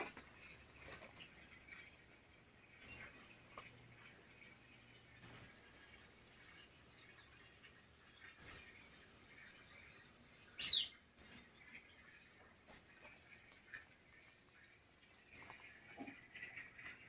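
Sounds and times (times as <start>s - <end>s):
small bird chirping: 0.0s - 12.3s, 15.1s - 17.0s.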